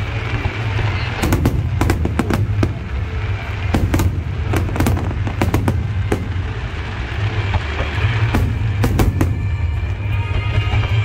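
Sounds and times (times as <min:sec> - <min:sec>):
fireworks bangs: 0:00.0 - 0:11.0
low rumble: 0:00.0 - 0:11.0.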